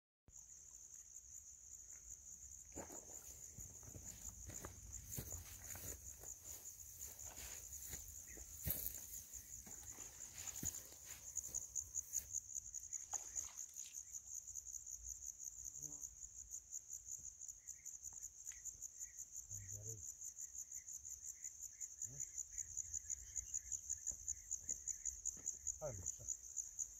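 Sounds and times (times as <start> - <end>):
crickets trilling: 0.3 - 26.9
higher insect trill: 0.3 - 26.9.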